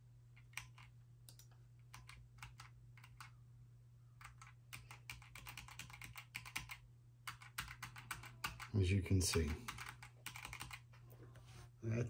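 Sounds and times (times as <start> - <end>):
computer keyboard keystrokes: 0.3 - 3.4, 4.2 - 10.9.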